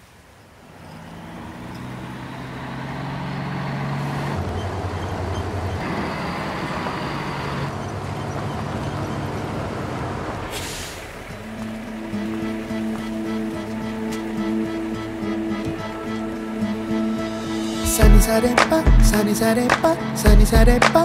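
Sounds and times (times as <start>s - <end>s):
truck engine running: 0.7s - 21.0s.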